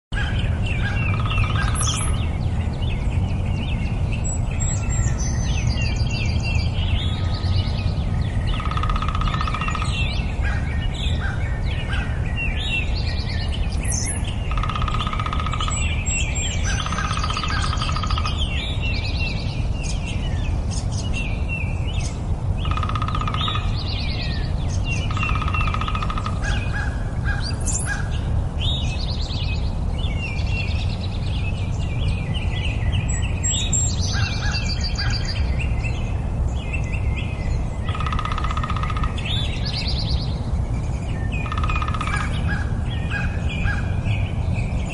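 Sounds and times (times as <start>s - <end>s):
nightingale singing: 0.1s - 44.9s.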